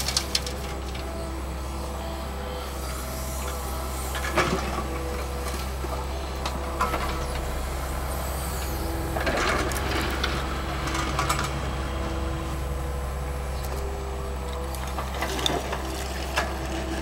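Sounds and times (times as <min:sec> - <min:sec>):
diesel engine running: 0:00.0 - 0:17.0
excavator digging rubble: 0:00.0 - 0:17.0.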